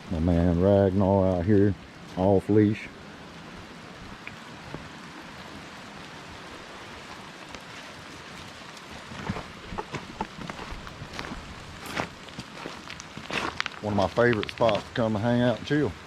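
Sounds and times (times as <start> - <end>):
rainfall hiss: 0.0 - 16.0.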